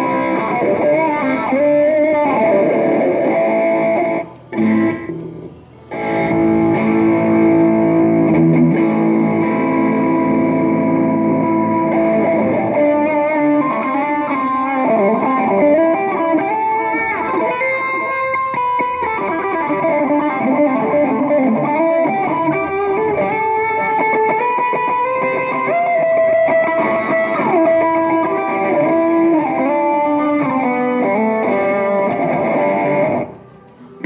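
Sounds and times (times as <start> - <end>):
electric guitar chord ringing: 0.0 - 33.3
electric guitar lead line: 0.0 - 33.5.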